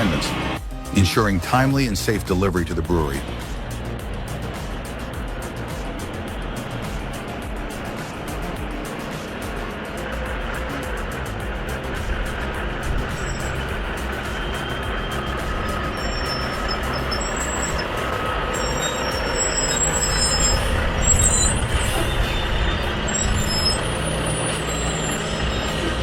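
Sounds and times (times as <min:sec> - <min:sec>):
truck engine rumble: 0:00.0 - 0:26.0.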